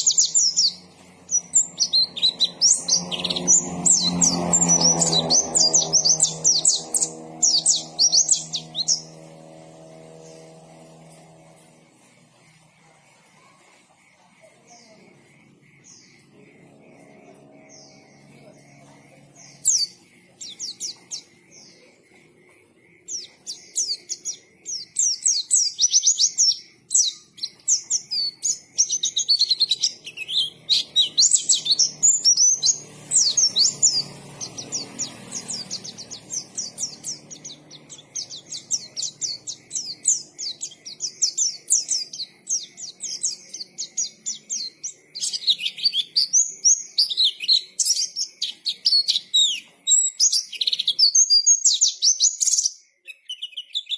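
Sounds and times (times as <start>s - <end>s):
bird high chirps: 0.0s - 53.9s.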